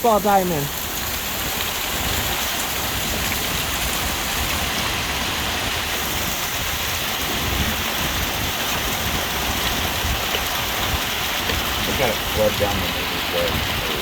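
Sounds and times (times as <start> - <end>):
heavy rain hitting ground: 0.0 - 14.0
runoff water rushing: 0.0 - 14.0.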